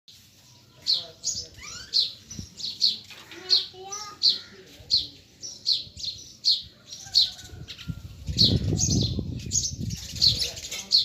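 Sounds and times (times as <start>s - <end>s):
small bird chirping: 0.2s - 11.0s.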